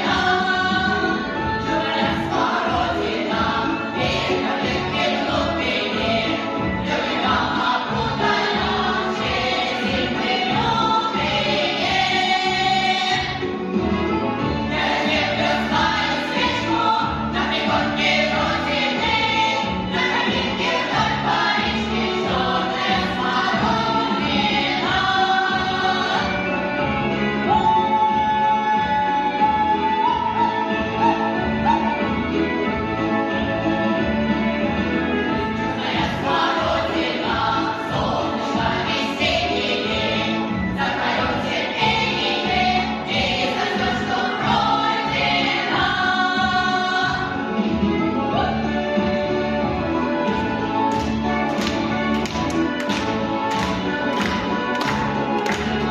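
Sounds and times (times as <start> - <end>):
choir singing: 0.0 - 13.8, 14.4 - 32.4, 35.3 - 48.9
musical accompaniment: 0.0 - 55.9.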